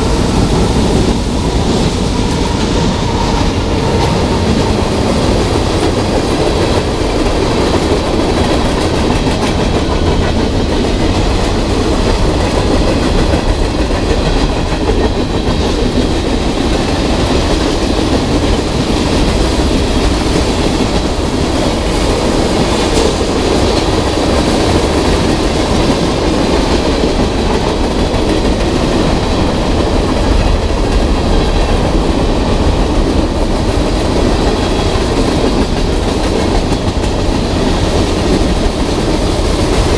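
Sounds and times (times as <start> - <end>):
steel wheels clattering on rail: 0.0 - 39.9.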